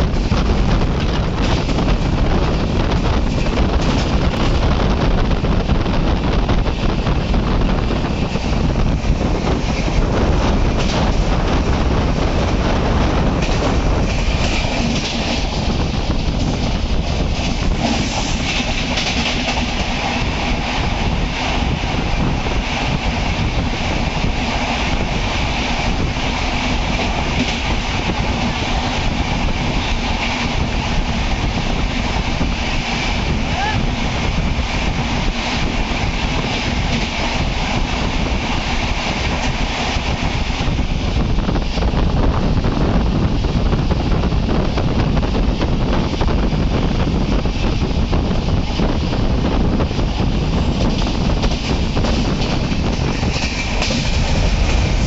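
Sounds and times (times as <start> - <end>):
freight train passing close: 0.0 - 55.0
train rail running noise: 0.0 - 55.0.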